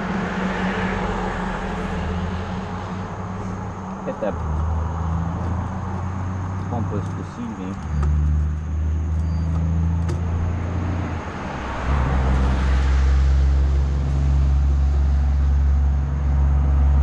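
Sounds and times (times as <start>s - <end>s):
road and wind rumble: 0.0s - 17.0s
tyre hiss from passing traffic: 0.0s - 17.0s.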